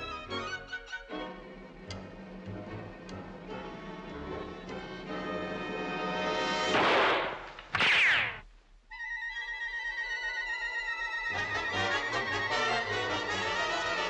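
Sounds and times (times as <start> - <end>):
cartoon orchestral music: 0.0 - 6.7, 9.3 - 14.0.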